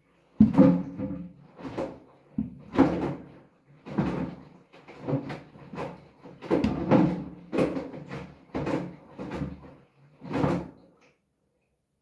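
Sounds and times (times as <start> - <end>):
water sloshing in washing machine: 0.0 - 11.2.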